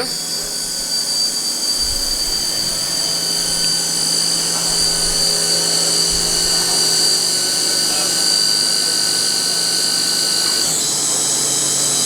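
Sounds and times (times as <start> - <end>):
low machine hum: 0.0 - 10.2
mill spindle high whine: 0.0 - 12.0.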